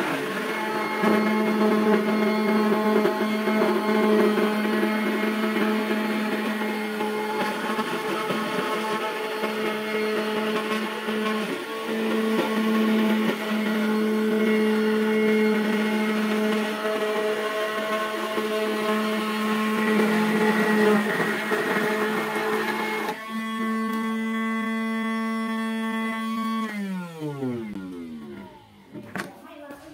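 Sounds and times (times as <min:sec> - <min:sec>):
electric motor whining: 0:00.0 - 0:29.1.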